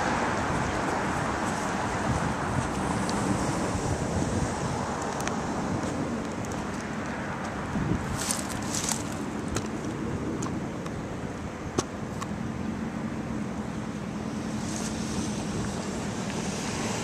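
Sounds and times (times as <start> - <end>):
cars passing: 0.0 - 17.0
low engine hum: 0.0 - 17.0.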